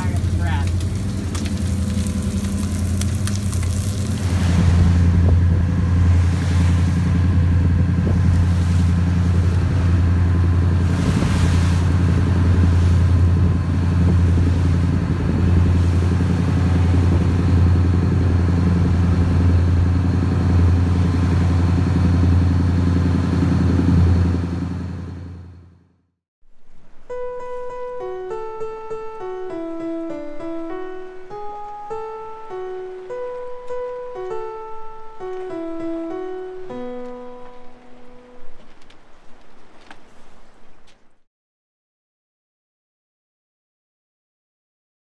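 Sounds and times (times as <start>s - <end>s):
boat engines droning: 0.0s - 25.8s, 26.9s - 41.2s.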